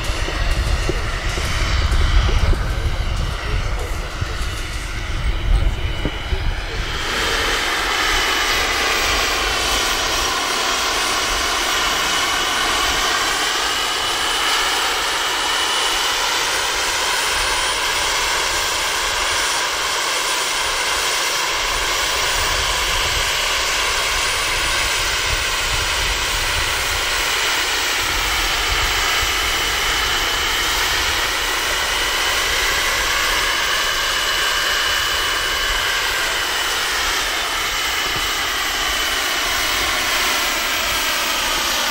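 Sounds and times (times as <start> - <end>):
model turbine whine: 0.0 - 41.9.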